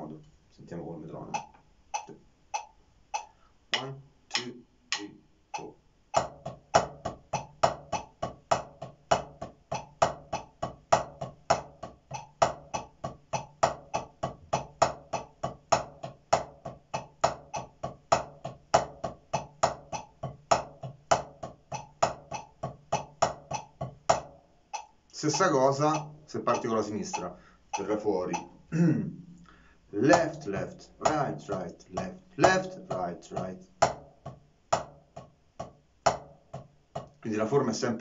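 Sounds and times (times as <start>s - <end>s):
drumsticks on a practice pad: 1.4s - 28.6s, 30.1s - 37.2s.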